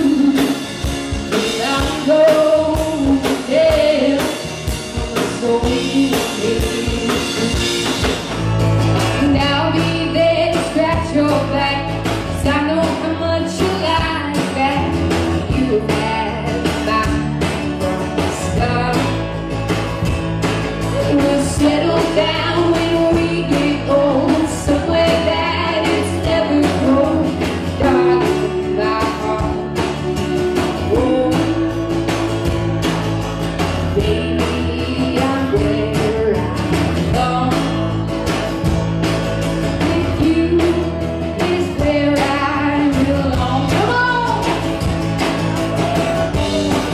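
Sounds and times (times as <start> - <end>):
bass guitar: 0.0 - 46.9
drums playing a steady beat: 0.0 - 46.9
electric guitar: 0.0 - 46.9.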